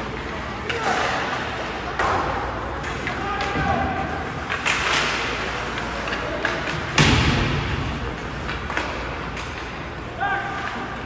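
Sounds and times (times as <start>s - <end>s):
puck banging against rink boards: 0.6s - 9.8s
hockey sticks and puck knocking: 0.6s - 9.9s.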